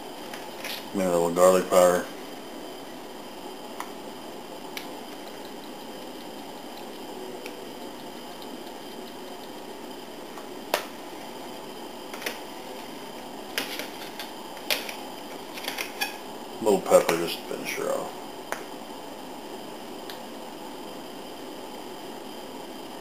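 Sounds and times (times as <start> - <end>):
gas stove burner hissing: 0.0 - 23.0.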